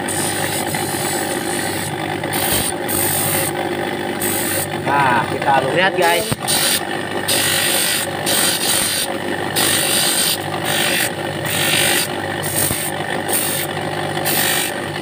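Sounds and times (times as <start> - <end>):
metal grinding on abrasive disc: 0.0 - 3.6, 4.2 - 14.8
motor humming: 0.0 - 15.0.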